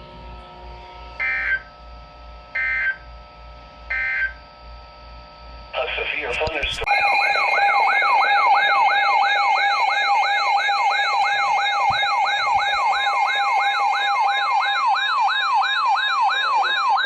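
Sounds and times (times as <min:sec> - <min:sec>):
electronic siren alert tone: 0:01.0 - 0:01.8, 0:02.5 - 0:03.1, 0:03.8 - 0:17.0.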